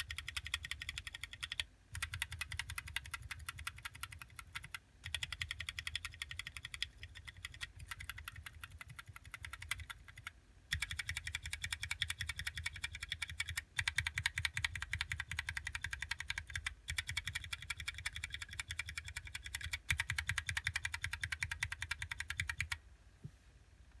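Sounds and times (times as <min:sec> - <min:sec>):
mechanical keyboard typing: 0:00.0 - 0:22.8.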